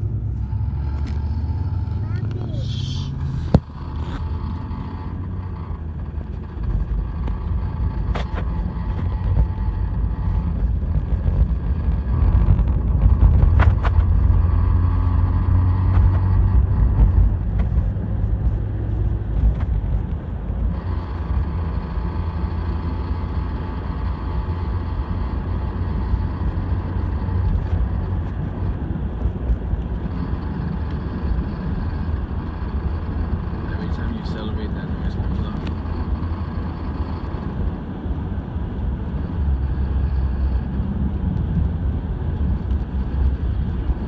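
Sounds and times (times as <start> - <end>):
pickup truck engine and road noise: 0.0 - 44.0.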